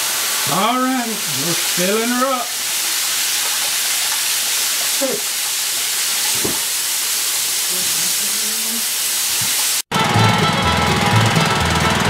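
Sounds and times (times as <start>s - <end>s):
hose water splashing into metal tank: 0.0s - 9.8s.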